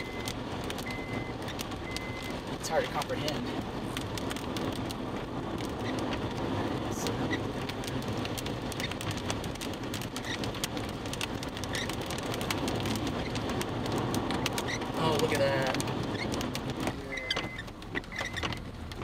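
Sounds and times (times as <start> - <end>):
rain pattering on a vehicle: 0.0 - 19.0.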